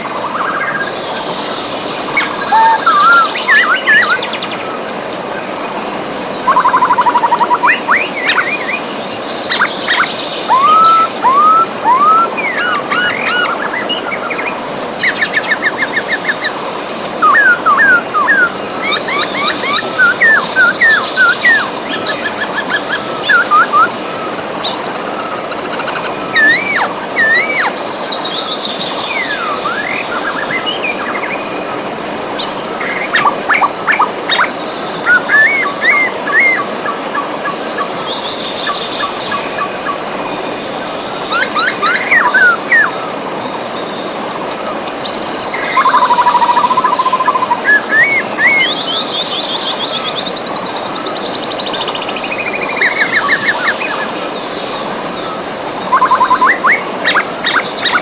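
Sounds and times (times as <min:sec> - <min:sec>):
birds singing: 0:00.0 - 0:58.0
river rushing: 0:00.0 - 0:58.0.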